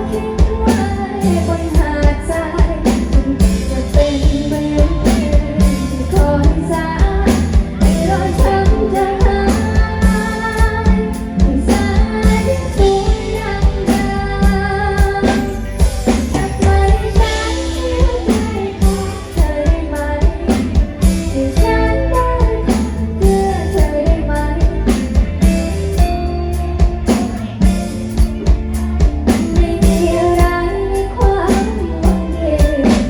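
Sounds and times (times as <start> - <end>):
guitar and drum kit band: 0.0 - 33.0
woman singing pop song: 0.0 - 33.0.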